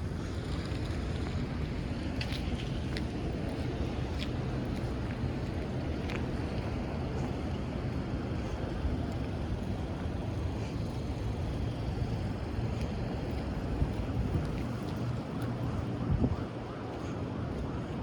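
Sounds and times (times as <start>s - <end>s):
low city rumble: 0.0s - 18.0s.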